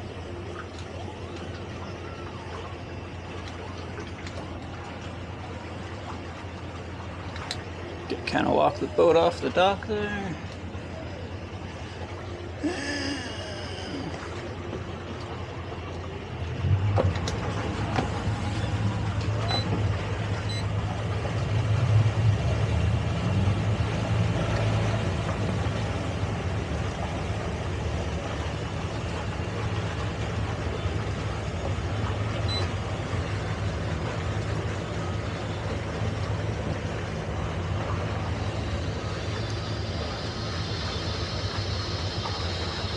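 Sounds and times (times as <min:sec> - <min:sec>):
outboard engines humming: 0:00.0 - 0:42.9.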